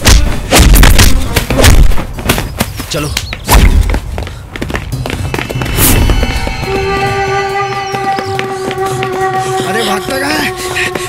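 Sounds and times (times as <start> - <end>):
film score with steady beat: 0.0 - 11.0.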